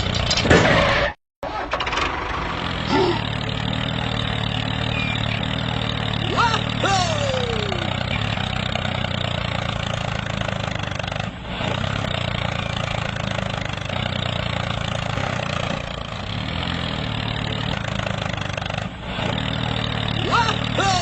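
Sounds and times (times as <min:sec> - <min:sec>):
small tractor engine running: 0:00.0 - 0:00.5, 0:01.4 - 0:21.0.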